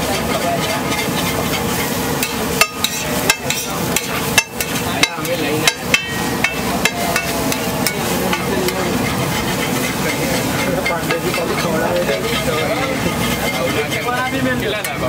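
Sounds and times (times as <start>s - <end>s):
metal spatula clanking on griddle: 0.0s - 15.0s
steady sizzling hiss: 0.0s - 15.0s.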